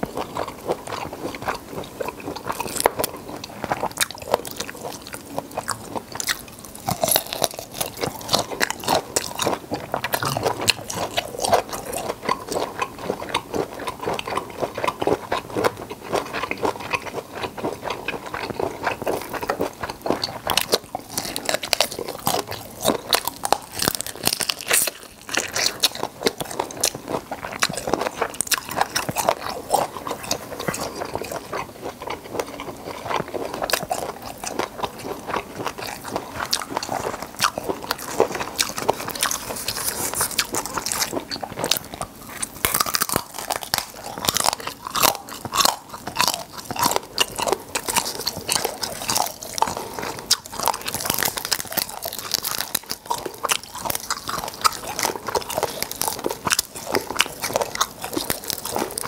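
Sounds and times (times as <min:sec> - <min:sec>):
wet crunching of chewing: 0:00.0 - 0:59.0.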